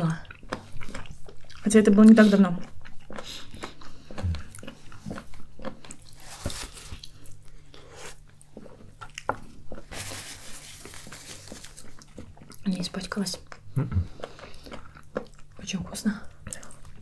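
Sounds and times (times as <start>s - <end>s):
person chewing chicken: 0.1s - 12.6s, 13.4s - 15.6s.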